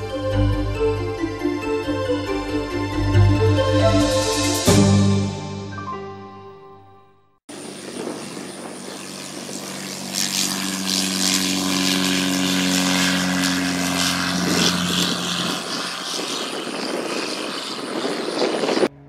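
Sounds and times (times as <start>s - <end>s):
airplane engine drone: 0.0s - 5.6s, 7.5s - 19.0s
propeller and wind rushing: 0.0s - 5.7s, 7.5s - 19.0s.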